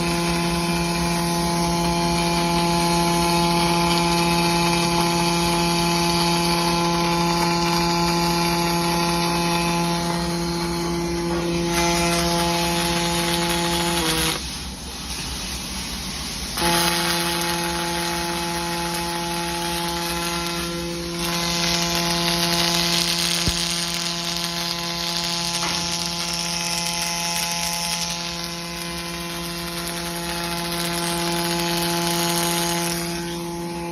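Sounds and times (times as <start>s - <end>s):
machine hum with hiss: 0.0s - 33.9s.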